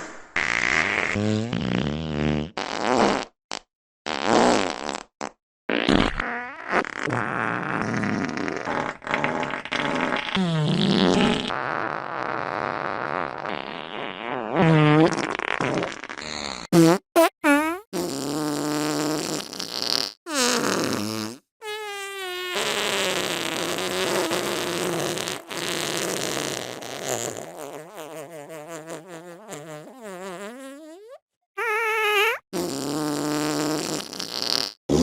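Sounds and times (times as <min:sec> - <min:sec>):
fart sounds: 0:00.0 - 0:35.0.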